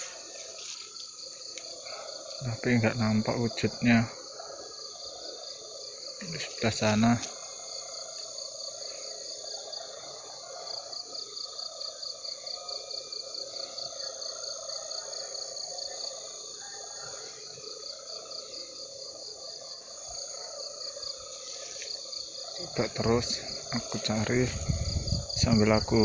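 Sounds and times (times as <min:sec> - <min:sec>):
cricket chirping: 0:00.0 - 0:26.0
high insect buzz: 0:00.0 - 0:26.0.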